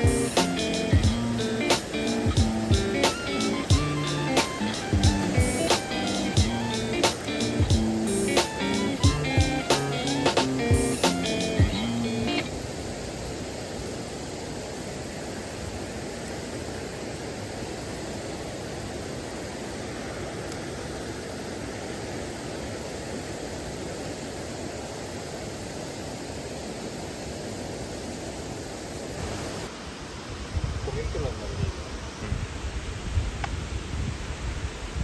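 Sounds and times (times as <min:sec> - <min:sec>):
mountain stream rushing: 0:00.0 - 0:30.8.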